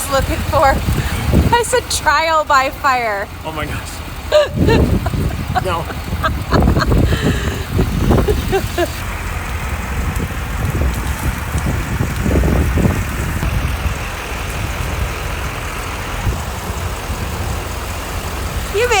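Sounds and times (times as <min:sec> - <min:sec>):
truck engine low rumble: 0:00.0 - 0:19.0.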